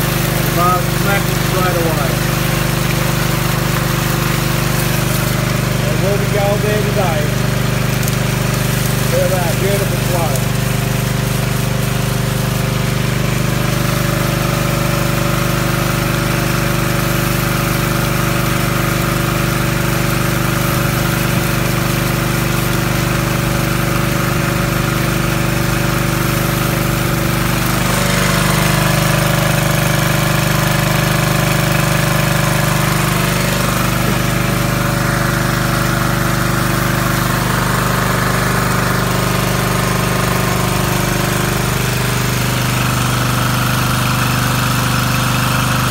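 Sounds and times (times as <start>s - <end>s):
water pump engine running: 0.0s - 45.9s.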